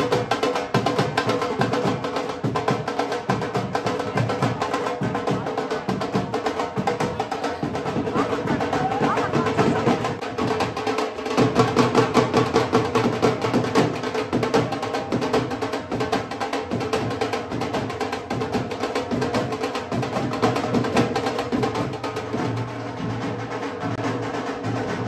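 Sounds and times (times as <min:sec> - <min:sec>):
hand drum dance rhythm: 0:00.0 - 0:25.0.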